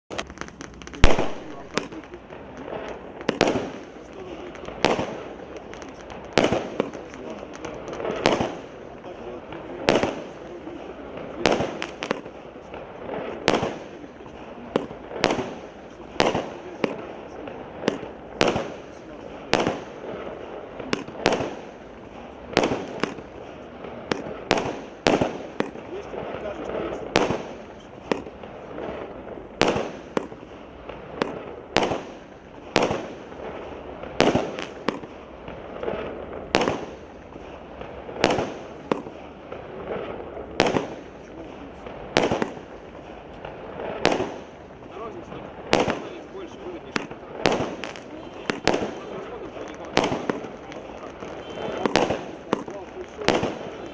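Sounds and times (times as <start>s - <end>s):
fireworks bangs: 0.1s - 53.9s
fireworks hiss: 0.1s - 53.9s.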